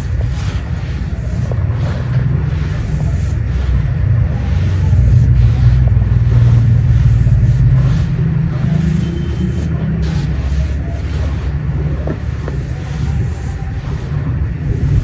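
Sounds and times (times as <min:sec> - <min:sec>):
moving vehicle rumble: 0:00.0 - 0:15.0.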